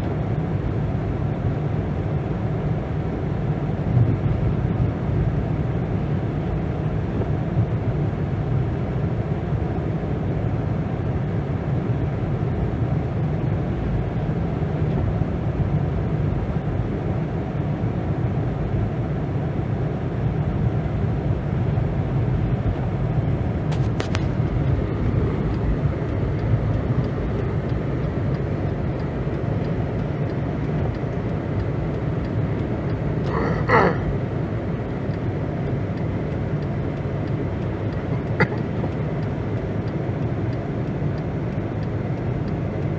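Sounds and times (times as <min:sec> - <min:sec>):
car driving rumble: 0:00.0 - 0:42.9.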